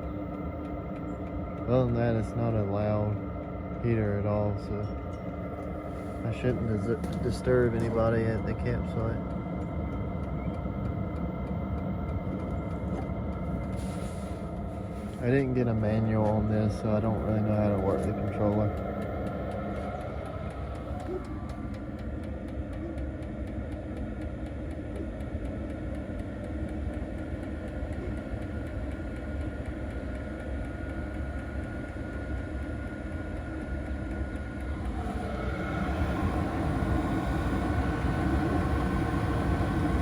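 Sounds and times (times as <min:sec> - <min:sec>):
faint high whine: 0:00.0 - 0:22.1, 0:27.8 - 0:40.0
air heater fan hum: 0:00.0 - 0:40.0.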